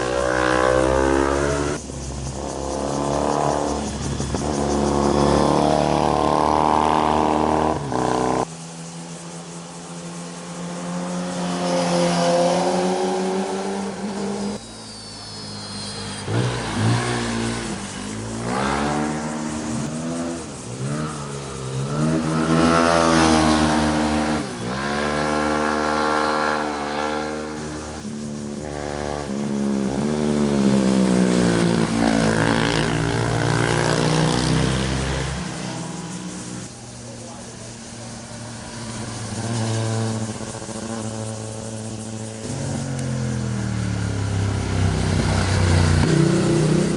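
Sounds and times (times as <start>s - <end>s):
motorcycles passing revving: 0.0s - 46.9s.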